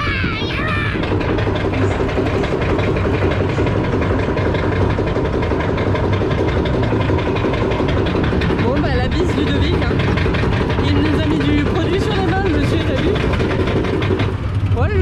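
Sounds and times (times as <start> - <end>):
thrill ride rumbling: 0.0 - 15.0.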